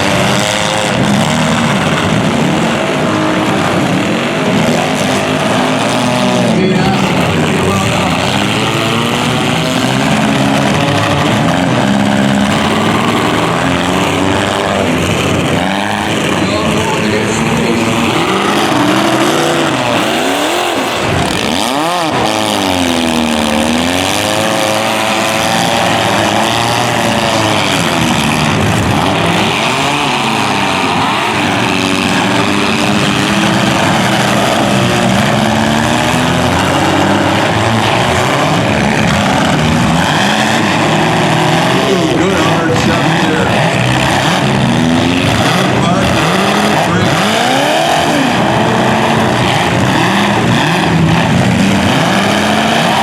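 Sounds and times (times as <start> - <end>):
car engines revving hard: 0.0 - 53.0
loud din of motors: 0.0 - 53.0.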